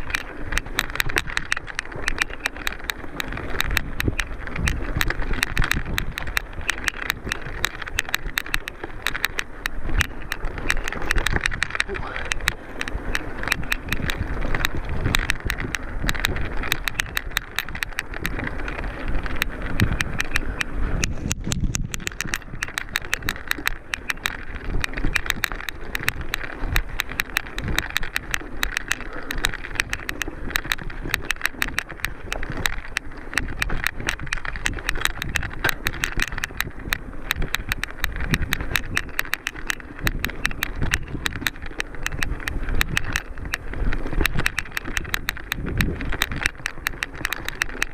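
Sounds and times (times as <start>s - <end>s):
bike rattling and clattering: 0.0s - 47.9s
bike tyres on dirt and stones: 0.0s - 47.9s.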